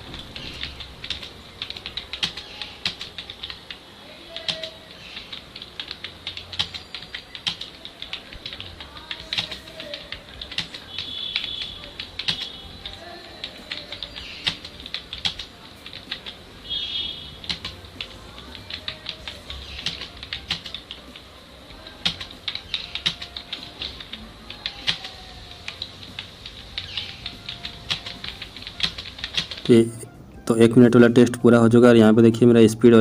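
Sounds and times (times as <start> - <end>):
keyboard typing clicks: 0.1 - 16.8, 17.4 - 21.2, 22.0 - 29.7.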